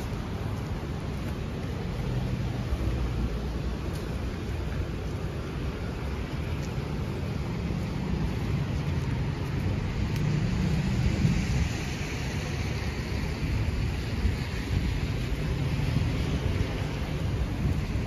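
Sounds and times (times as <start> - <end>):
traffic noise: 0.0 - 18.0
tyres hissing on wet road: 0.0 - 18.0.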